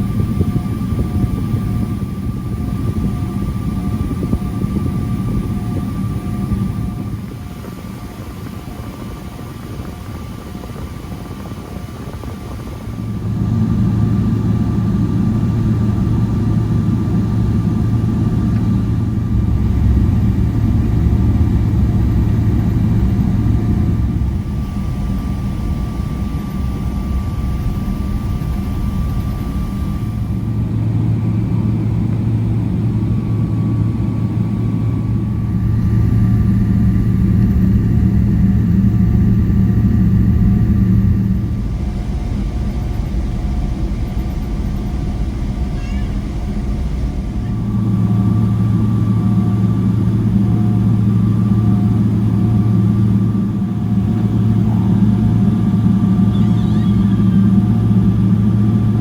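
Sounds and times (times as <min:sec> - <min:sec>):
airliner cabin rumble: 0:00.0 - 0:59.0
faint whining tones: 0:00.0 - 0:59.0.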